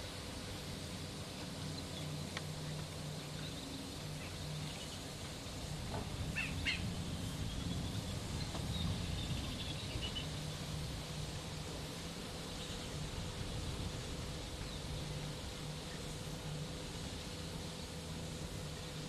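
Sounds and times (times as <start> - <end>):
low steady outdoor hum: 0.0 - 19.0
small birds chirping: 1.3 - 11.3, 12.4 - 13.8, 14.4 - 19.0.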